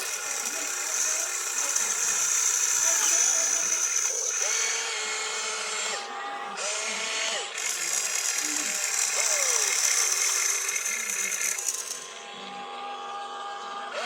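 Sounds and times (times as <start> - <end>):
steady high whine: 0.0 - 14.0
toy electric motors whirring: 0.0 - 14.0.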